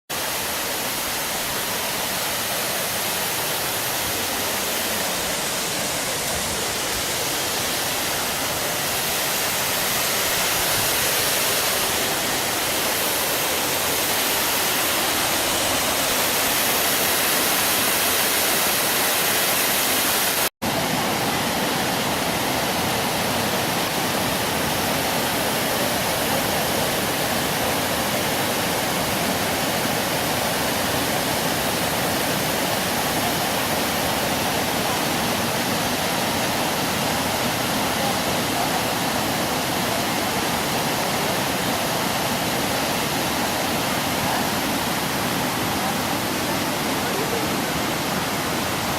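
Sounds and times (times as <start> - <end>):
waterfall rushing: 0.1 - 48.9.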